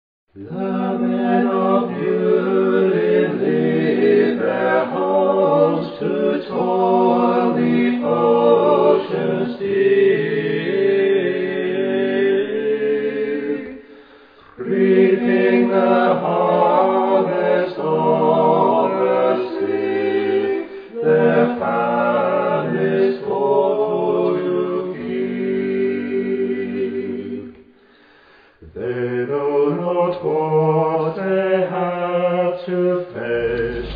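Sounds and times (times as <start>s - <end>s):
voices singing held chords: 0.4s - 27.6s, 28.6s - 33.9s.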